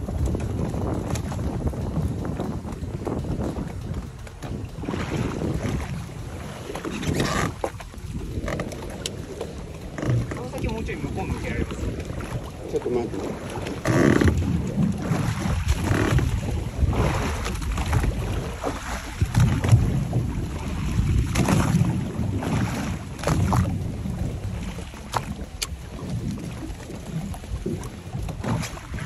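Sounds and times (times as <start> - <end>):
water slapping against boat: 0.0 - 29.0
wind buffeting microphone: 0.0 - 29.0.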